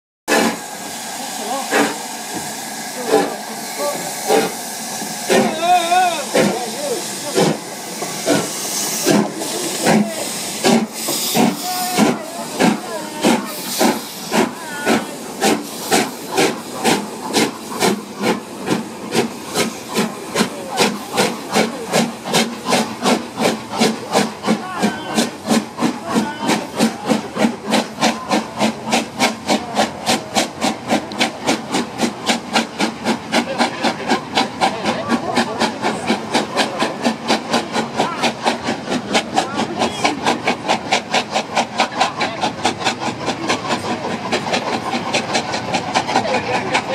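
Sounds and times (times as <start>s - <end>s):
hiss of steam: 0.3s - 46.9s
steam locomotive exhaust chuffs: 0.3s - 46.9s.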